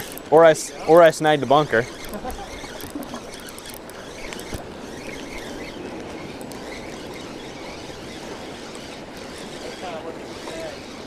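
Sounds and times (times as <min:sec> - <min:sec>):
fishing reel being cranked: 0:00.0 - 0:11.0
wind: 0:00.0 - 0:11.0.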